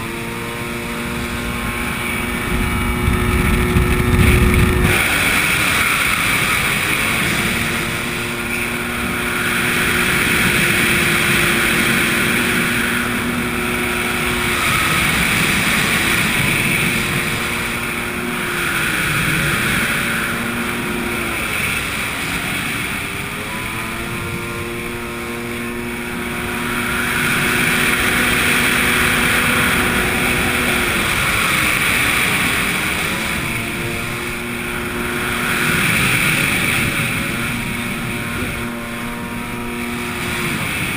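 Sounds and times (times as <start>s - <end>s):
jet ski engine running: 0.0s - 40.9s
spray and wind rushing: 0.0s - 40.9s.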